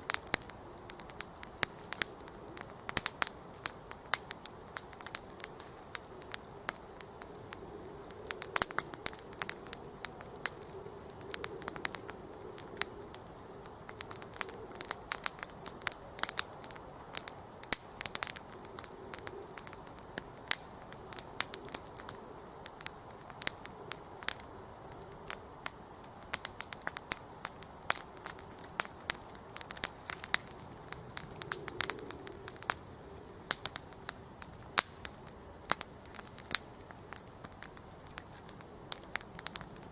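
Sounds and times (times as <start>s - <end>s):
campfire crackling and popping: 0.0s - 39.9s
soft hiss of burning: 0.0s - 39.9s.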